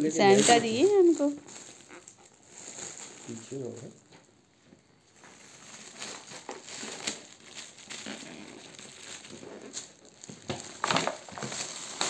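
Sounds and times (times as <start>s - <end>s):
wrapping paper crinkling and tearing: 0.0s - 4.3s, 5.1s - 12.0s.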